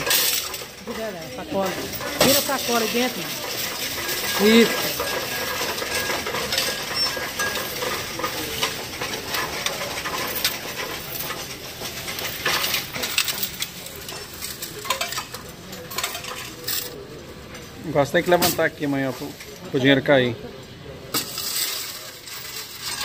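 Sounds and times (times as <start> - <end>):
coins rattling and clinking: 0.0 - 17.1, 21.1 - 23.0.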